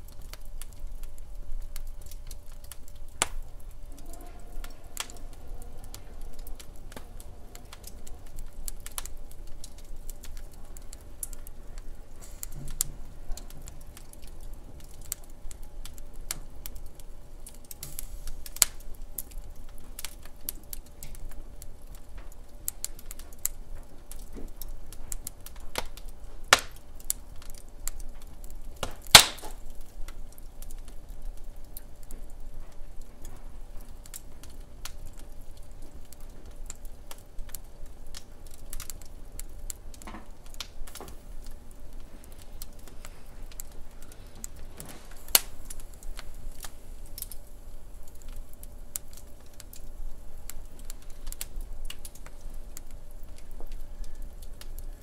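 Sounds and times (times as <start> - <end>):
loud fire pops: 0.0 - 32.4, 33.0 - 53.8
wood fire crackling: 0.0 - 55.0.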